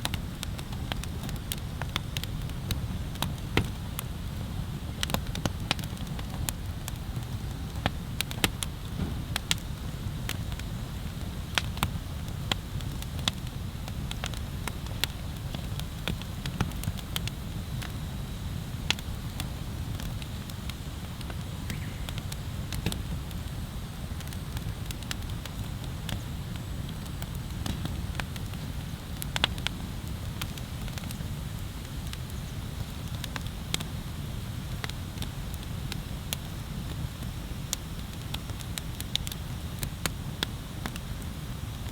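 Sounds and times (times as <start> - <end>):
bonfire crackling and popping: 0.0 - 41.9.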